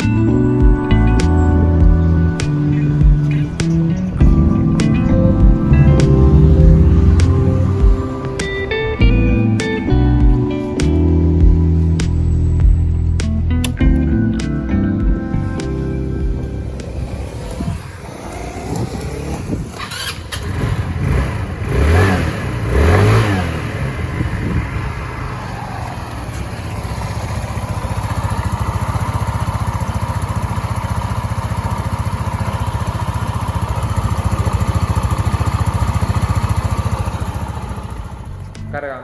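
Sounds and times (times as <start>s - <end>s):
scooter engine running: 0.0s - 10.7s, 16.0s - 38.6s.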